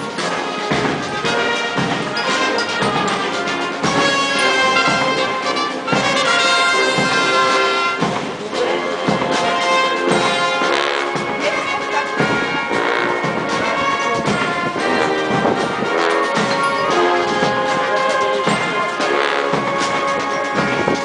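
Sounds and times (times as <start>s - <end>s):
military band playing a march: 0.0s - 21.0s
steady drum beat: 0.0s - 21.0s.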